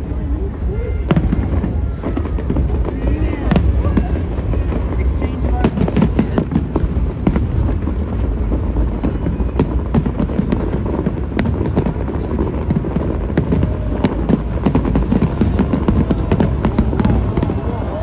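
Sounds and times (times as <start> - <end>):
fireworks bangs and crackles: 0.0 - 18.0
low rumble: 0.0 - 18.0.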